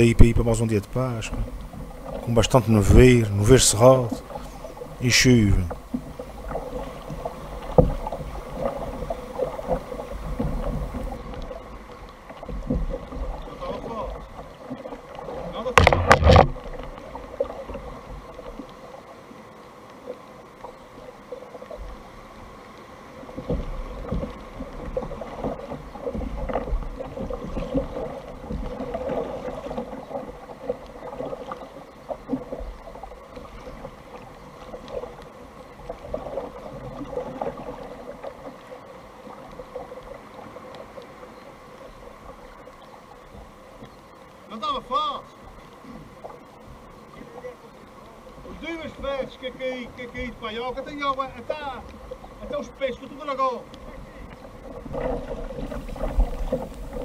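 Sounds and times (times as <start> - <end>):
paddle strokes in water: 0.0 - 57.0
water splashing around kayak: 0.0 - 57.0.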